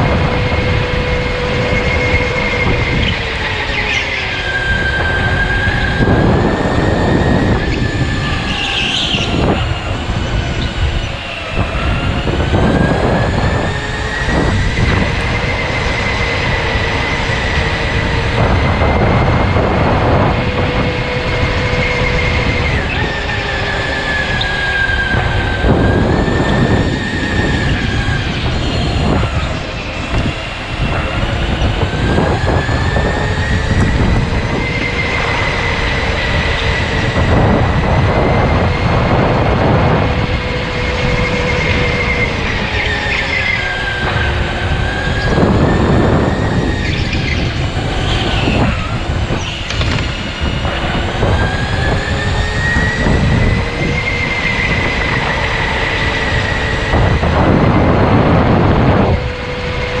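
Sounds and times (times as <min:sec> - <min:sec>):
electric go-kart motor whining: 0:00.0 - 1:00.0
rough rushing noise: 0:00.0 - 1:00.0.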